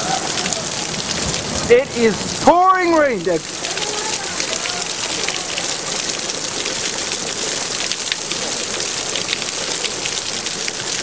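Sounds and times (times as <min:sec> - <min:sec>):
heavy rain pouring: 0:00.0 - 0:11.0
sharp raindrop impacts: 0:00.0 - 0:11.0.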